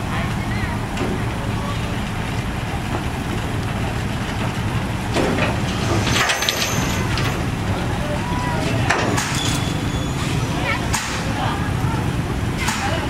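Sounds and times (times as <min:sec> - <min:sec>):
crane engine running: 0:00.0 - 0:13.0.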